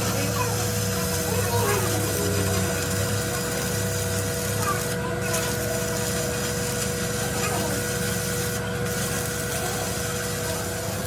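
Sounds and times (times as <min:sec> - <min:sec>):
power tool humming and whining: 0:00.0 - 0:11.0.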